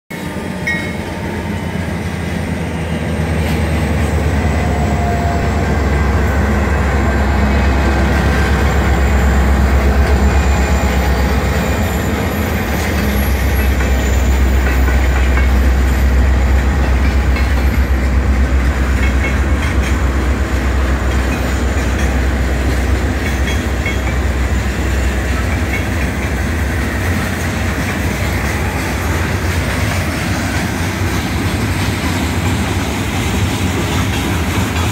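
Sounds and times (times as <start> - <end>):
locomotive engine rumble: 0.1 - 34.9
freight cars rolling over rails: 0.2 - 34.9.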